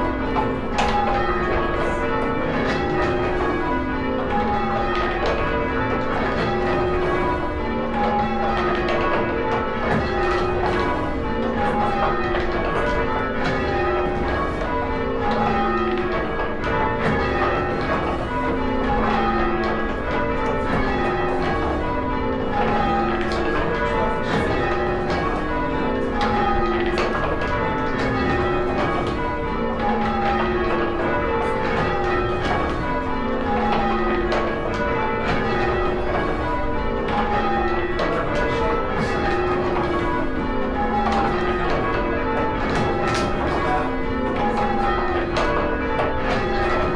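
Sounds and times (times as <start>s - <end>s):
church bells change ringing: 0.0s - 46.9s.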